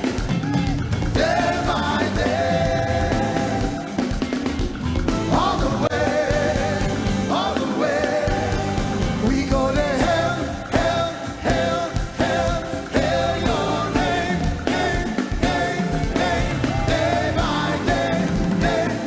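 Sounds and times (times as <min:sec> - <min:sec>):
instrumental accompaniment: 0:00.0 - 0:19.0
voices singing: 0:00.0 - 0:19.0.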